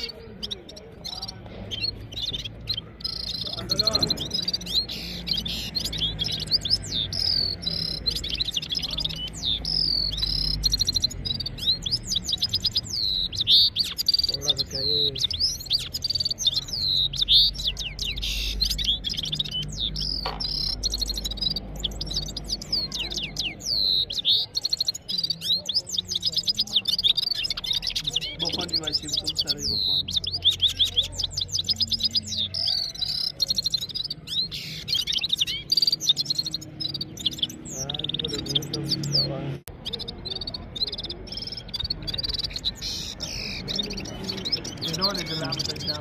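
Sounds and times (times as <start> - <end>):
birds singing twittering song: 0.0 - 46.0.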